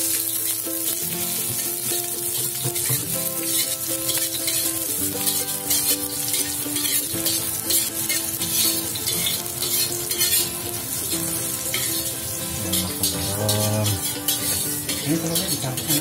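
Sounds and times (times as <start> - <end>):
background music: 0.0 - 16.0
metal spatula scraping a wok: 0.0 - 16.0
vegetables sizzling in oil: 0.0 - 16.0.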